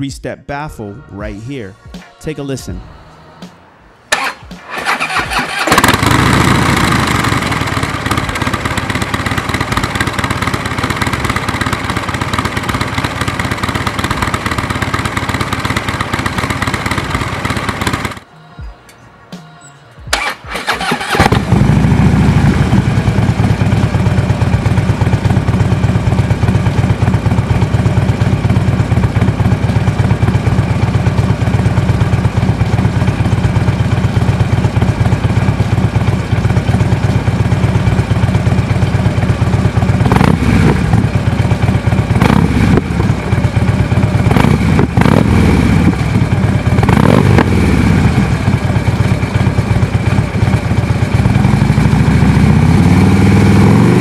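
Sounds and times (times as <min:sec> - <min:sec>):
motorcycle engine idling: 0:04.1 - 0:18.3, 0:20.1 - 0:52.8.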